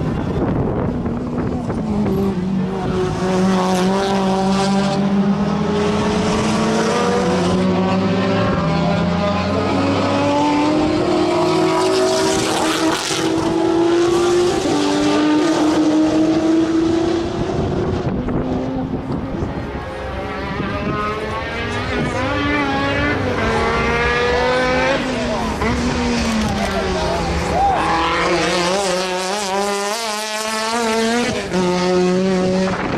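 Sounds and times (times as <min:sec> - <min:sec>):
race car engine revving: 0:00.0 - 0:32.9.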